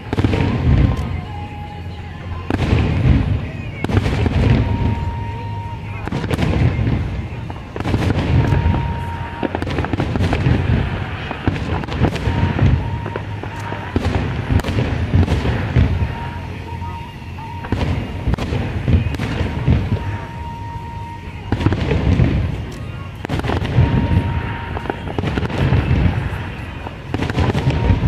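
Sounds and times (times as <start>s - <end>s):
fireworks booms and cracks: 0.0s - 28.0s.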